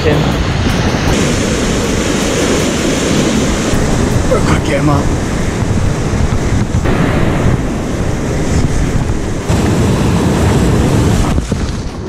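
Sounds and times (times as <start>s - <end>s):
sea surf breaking on rocks: 0.0s - 12.0s.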